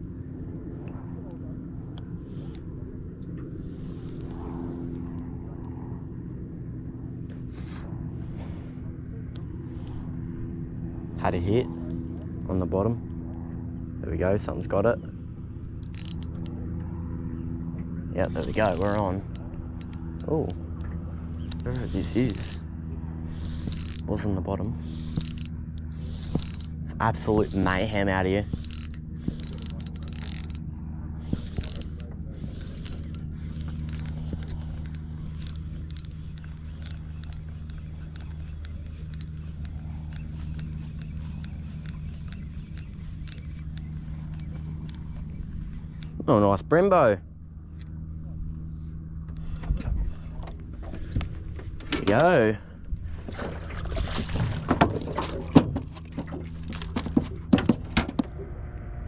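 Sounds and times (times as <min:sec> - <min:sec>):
steady low hum: 0:00.0 - 0:59.0
fishing reel gears whirring: 0:00.6 - 0:05.8, 0:09.2 - 0:52.6, 0:55.3 - 0:57.5.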